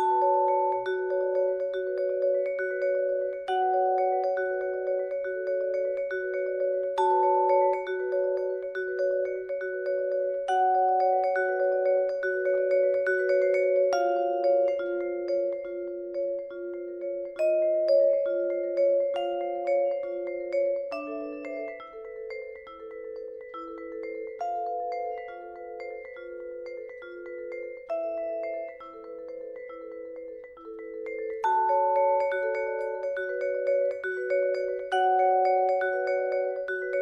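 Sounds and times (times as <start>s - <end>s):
vibraphone played with mallets: 0.0s - 37.0s.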